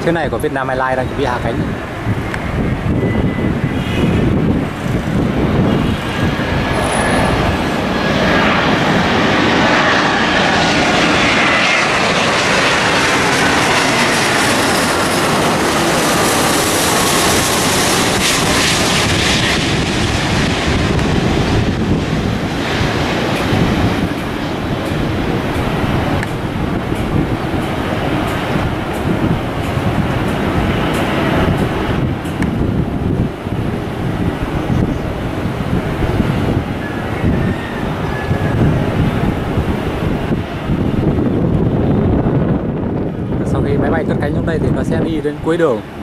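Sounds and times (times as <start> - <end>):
high jet engine whine: 0.0 - 46.0
jet engines passing overhead: 0.0 - 46.0.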